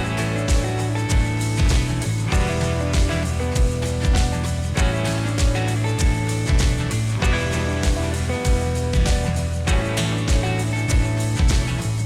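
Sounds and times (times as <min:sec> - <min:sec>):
plucked guitar-like sound: 0:00.0 - 0:11.7
background music with steady beat: 0:00.0 - 0:12.0.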